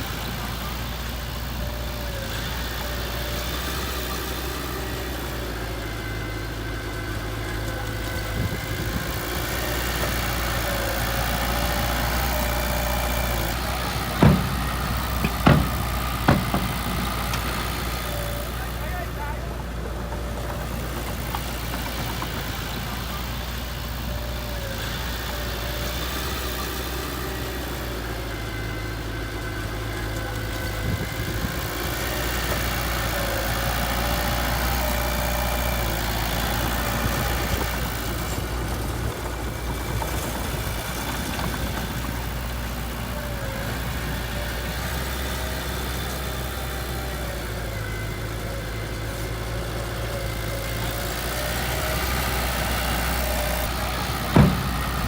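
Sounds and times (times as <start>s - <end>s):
diesel engine running at low revs: 0.0s - 55.0s.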